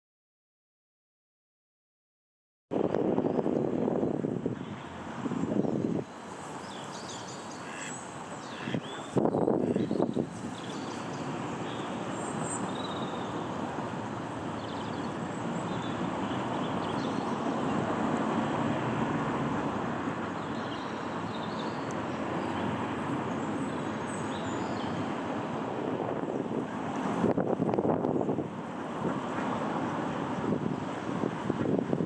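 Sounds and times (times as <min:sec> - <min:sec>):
rushing outdoor background noise: 0:02.7 - 0:32.0.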